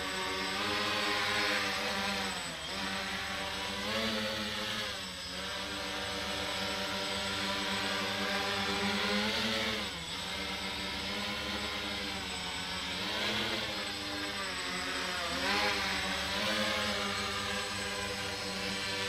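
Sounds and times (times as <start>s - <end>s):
quadcopter propellers whining: 0.0s - 19.0s.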